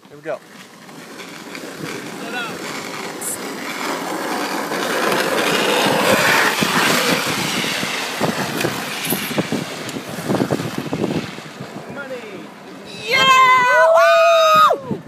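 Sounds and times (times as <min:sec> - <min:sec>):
skateboard wheels sliding on asphalt: 0:00.0 - 0:15.0
gloved hand scraping road: 0:00.1 - 0:13.6.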